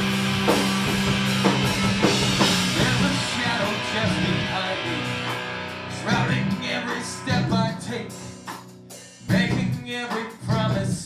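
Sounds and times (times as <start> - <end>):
heavy rock instrumental music: 0.0 - 11.0.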